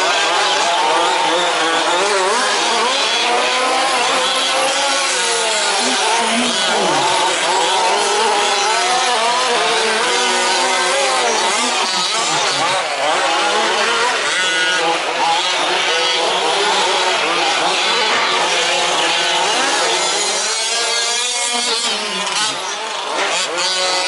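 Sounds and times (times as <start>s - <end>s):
small two-stroke engines revving: 0.0s - 24.0s.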